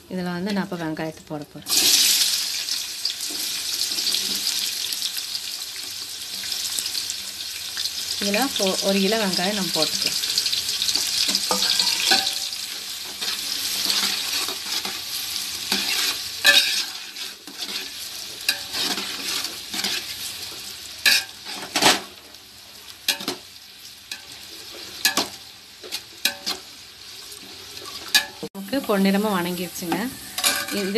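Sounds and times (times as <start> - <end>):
onions sizzling in hot oil: 0.1 - 30.9.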